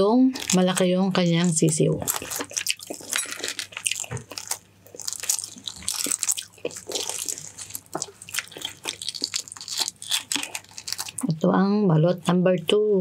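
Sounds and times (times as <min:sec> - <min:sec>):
person chewing wetly: 0:00.4 - 0:11.3.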